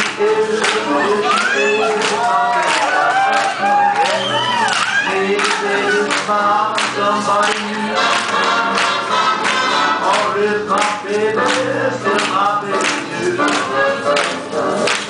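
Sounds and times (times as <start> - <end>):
swing jazz music: 0.0 - 15.0
voices singing in harmony: 0.0 - 15.0.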